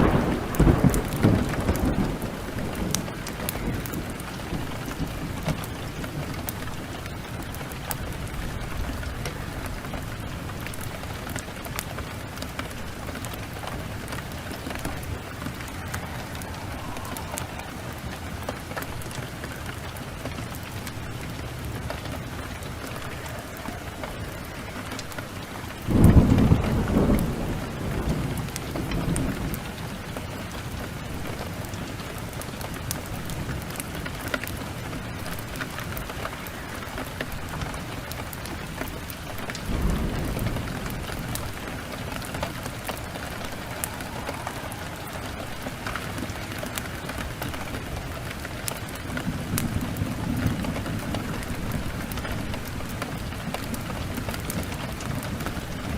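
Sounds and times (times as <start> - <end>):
steady rain: 0.0 - 55.9
thunder: 0.0 - 55.9.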